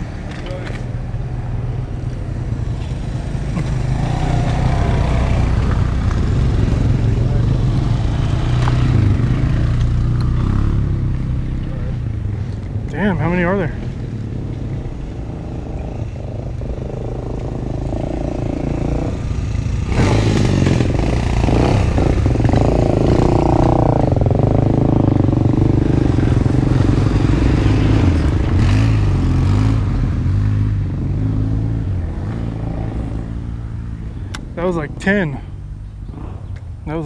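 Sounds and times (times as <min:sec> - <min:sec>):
atv engines revving: 0:00.0 - 0:37.0.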